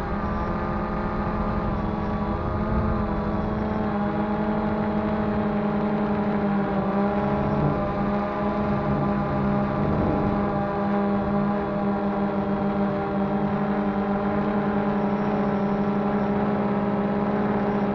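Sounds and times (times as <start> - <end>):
drone motors humming: 0.0 - 17.9.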